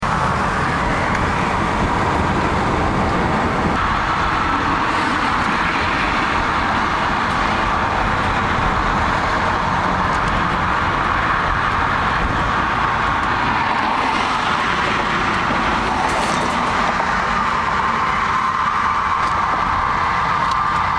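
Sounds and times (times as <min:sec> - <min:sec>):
vehicle road and engine noise: 0:00.0 - 0:20.9.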